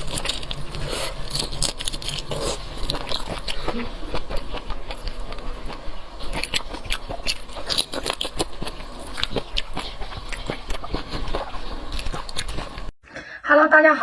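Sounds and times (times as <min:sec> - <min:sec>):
crunchy chewing of food: 0:00.0 - 0:12.9.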